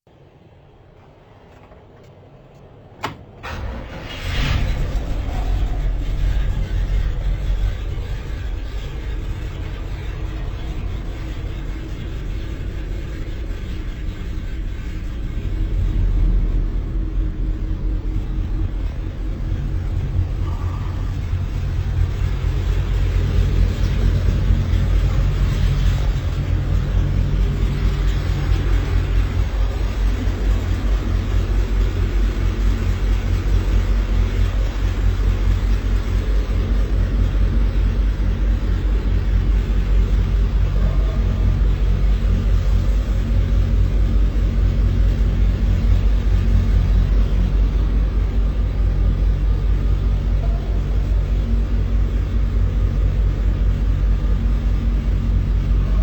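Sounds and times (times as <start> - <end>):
car engine low rumble: 0.1 - 56.0.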